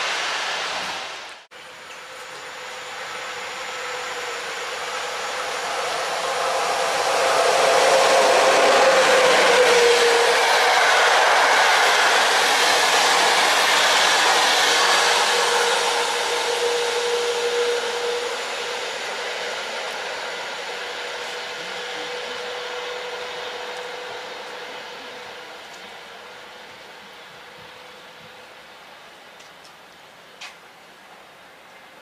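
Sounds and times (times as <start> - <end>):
locomotive hum: 0.0 - 31.9
train passing at speed: 0.0 - 32.0.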